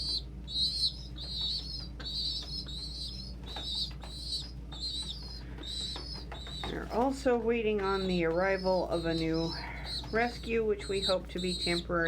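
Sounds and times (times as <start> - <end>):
dove squabs squealing: 0.0 - 12.0
low blowing hum: 0.0 - 12.0.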